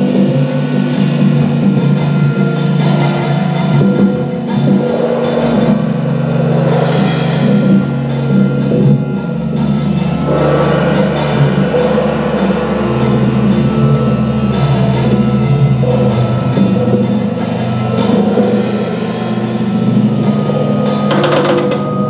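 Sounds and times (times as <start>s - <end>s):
drum kit with cymbals: 0.0s - 22.0s
organ playing chords: 0.0s - 22.0s.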